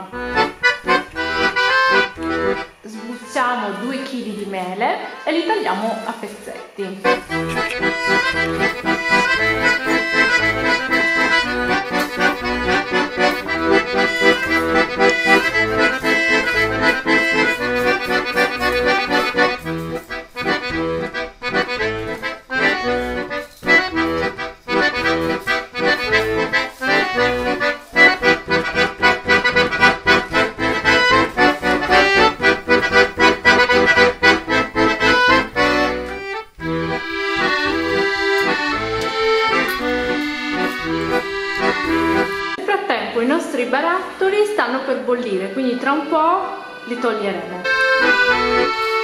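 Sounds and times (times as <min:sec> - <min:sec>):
accordion tune: 0:00.0 - 0:49.0.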